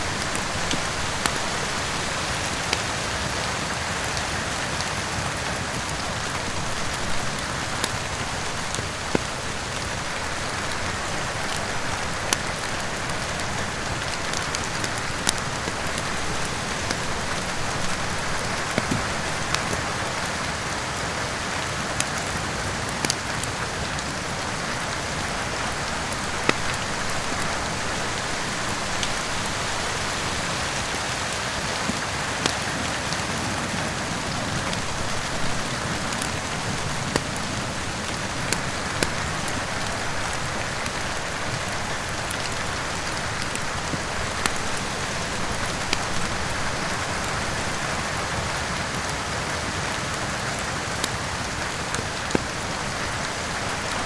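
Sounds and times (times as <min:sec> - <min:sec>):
steady rain falling: 0:00.0 - 0:54.0
wood fire popping and crackling: 0:00.0 - 0:54.0.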